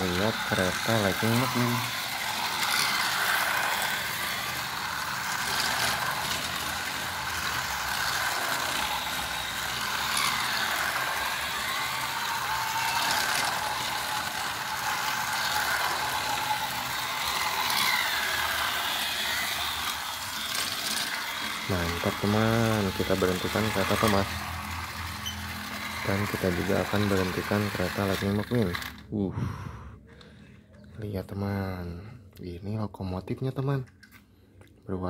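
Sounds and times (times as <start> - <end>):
toy train wheels rattling: 0.0 - 29.1
toy train motors whirring: 0.0 - 30.3.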